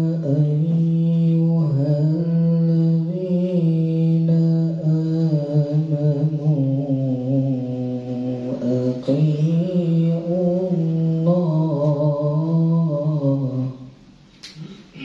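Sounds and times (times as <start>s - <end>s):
man chanting into microphone: 0.0s - 14.0s.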